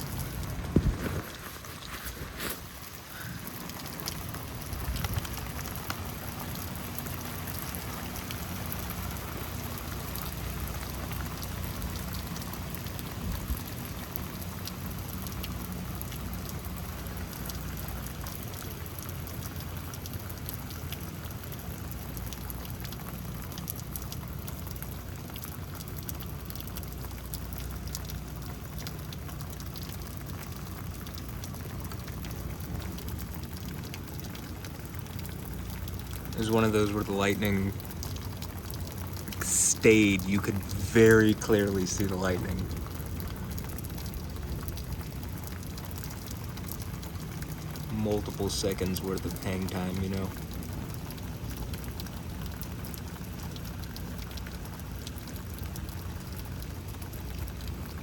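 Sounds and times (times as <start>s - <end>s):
steady rain: 0.0s - 58.0s
drops ticking close by: 2.9s - 58.0s.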